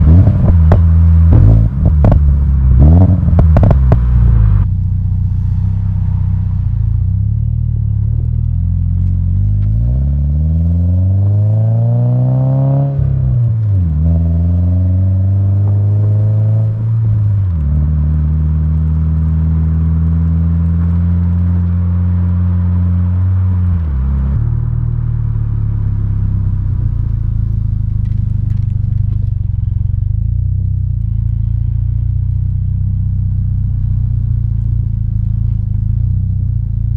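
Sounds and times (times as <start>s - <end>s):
car engine accelerating: 0.0s - 36.9s
car exhaust crackling and popping: 0.0s - 36.9s.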